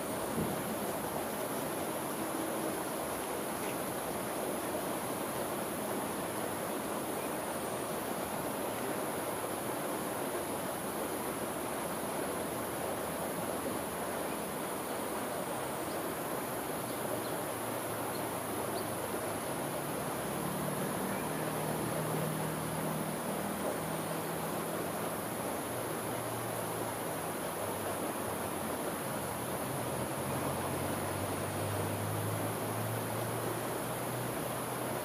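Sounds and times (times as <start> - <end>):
low hum of traffic: 0.0 - 35.0
mountain stream rushing: 0.0 - 35.0.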